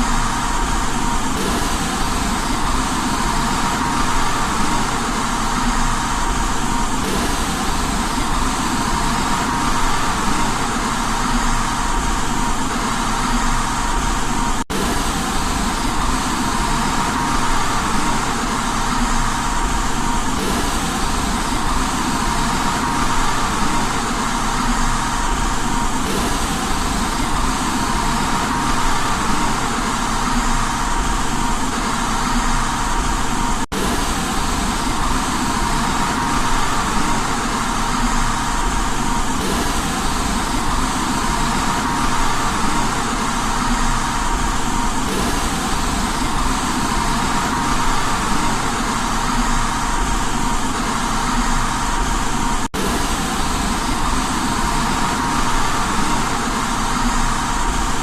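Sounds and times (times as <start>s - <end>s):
faint steady hum: 0.0s - 58.0s
white noise hiss: 0.0s - 58.0s.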